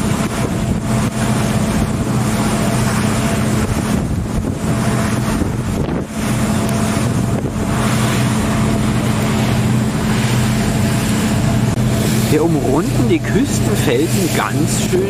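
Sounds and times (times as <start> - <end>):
boat engine humming: 0.0 - 15.0
wind buffeting microphone: 0.0 - 15.0.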